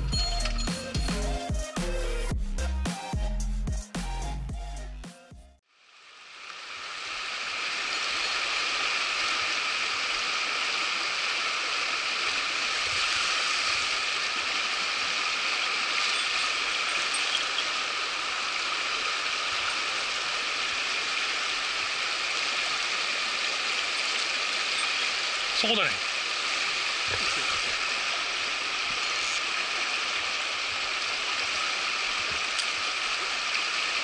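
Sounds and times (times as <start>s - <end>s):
stream rushing over rocks: 6.0s - 34.0s.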